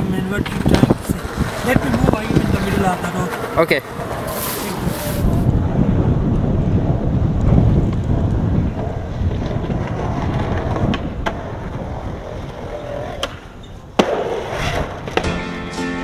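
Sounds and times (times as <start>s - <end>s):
skateboard clacks: 0.0s - 5.1s, 7.4s - 15.4s
skateboard wheels rolling on concrete: 0.0s - 16.0s
skater falling on street: 0.4s - 5.5s, 7.2s - 15.4s.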